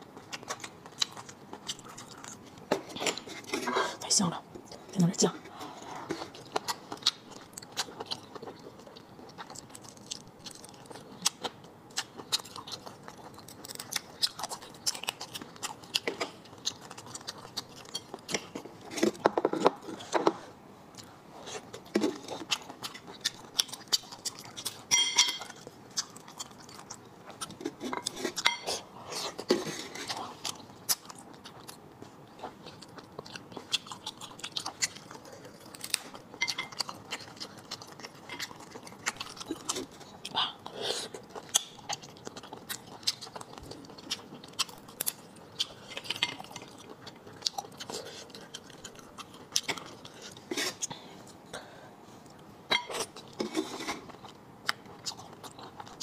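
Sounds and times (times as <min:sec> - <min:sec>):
person chewing: 0:00.0 - 0:04.9, 0:05.5 - 0:56.0.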